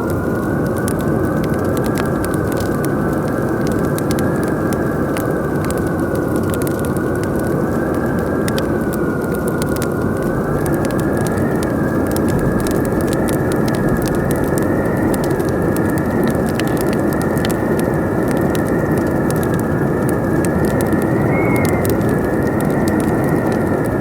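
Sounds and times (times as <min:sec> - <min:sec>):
howling wind whistling: 0:00.0 - 0:24.0
wood fire crackling and popping: 0:00.0 - 0:24.0.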